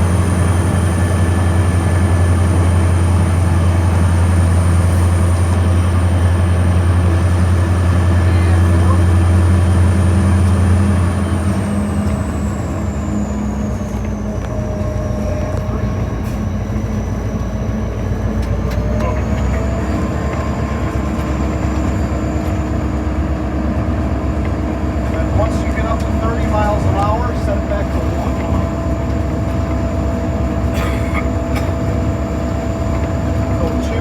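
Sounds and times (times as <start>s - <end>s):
diesel locomotive drone: 0.0s - 34.0s
high turbo whine: 0.0s - 34.0s.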